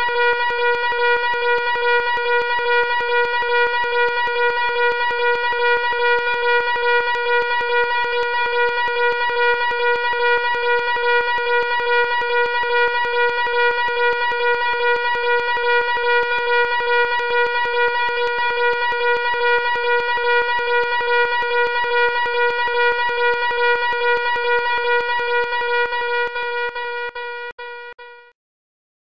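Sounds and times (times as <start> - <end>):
fire alarm horn pulsing: 0.0 - 28.3.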